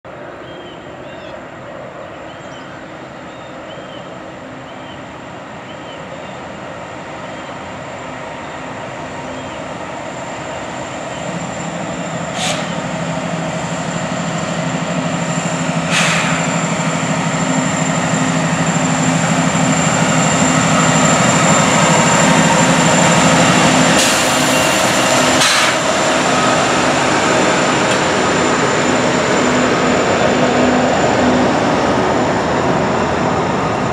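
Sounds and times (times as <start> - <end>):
diesel locomotive engine drone: 0.0 - 33.9.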